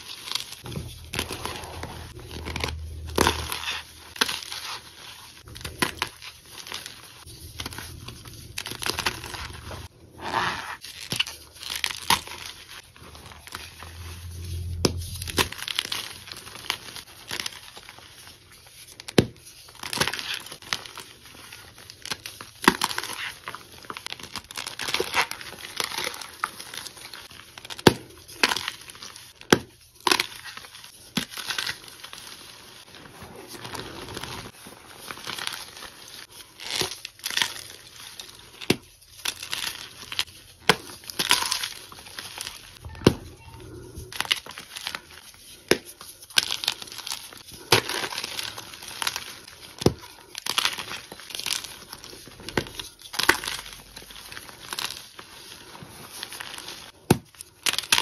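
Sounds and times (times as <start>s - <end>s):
chalk crumbling: 0.0s - 42.8s, 43.6s - 58.0s
cornstarch squeaking and crunching: 0.0s - 58.0s.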